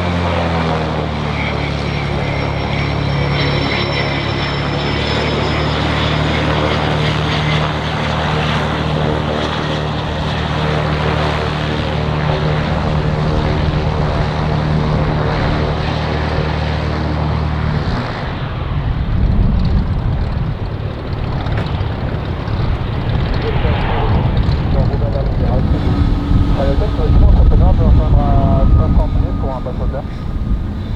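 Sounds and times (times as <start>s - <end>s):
aircraft engines humming: 0.0s - 30.9s
high engine whine: 0.0s - 30.9s.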